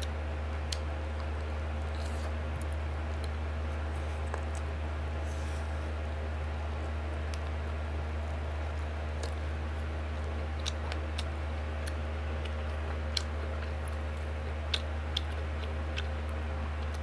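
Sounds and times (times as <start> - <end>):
person eating and chewing: 0.0 - 17.0
steady low hum: 0.0 - 17.0.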